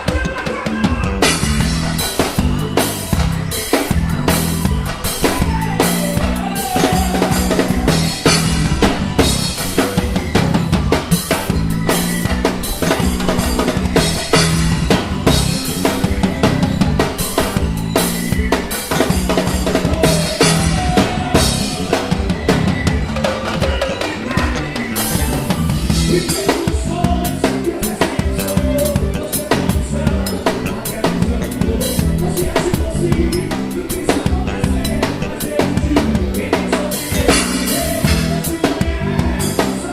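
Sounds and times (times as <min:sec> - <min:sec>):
band playing: 0:00.0 - 0:39.9
bass drum: 0:00.0 - 0:39.9
bass line: 0:00.0 - 0:39.9.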